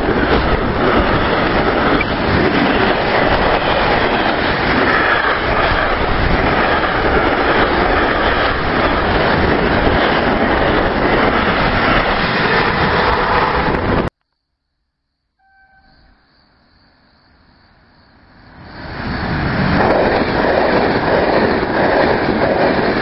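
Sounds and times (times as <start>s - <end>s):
train passing at speed: 0.0s - 14.1s, 15.4s - 23.0s.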